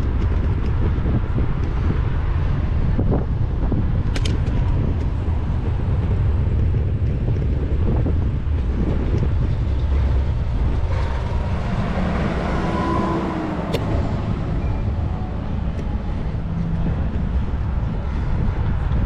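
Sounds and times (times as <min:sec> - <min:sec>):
passing road traffic: 0:00.0 - 0:19.0
wind rumbling on microphone: 0:00.0 - 0:19.0.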